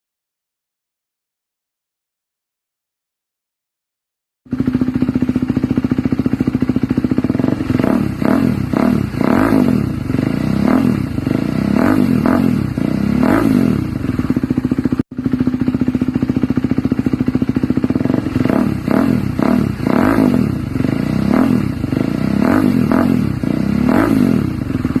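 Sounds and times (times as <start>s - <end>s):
motorcycle engine idling and revving: 4.5s - 25.0s.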